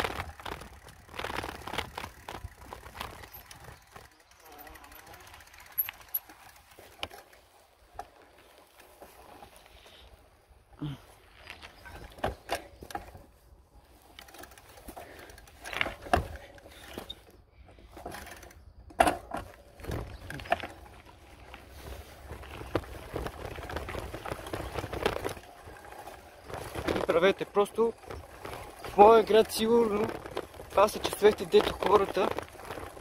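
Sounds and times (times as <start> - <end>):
bicycle rattling and knocking: 0.0 - 10.0, 10.8 - 33.0.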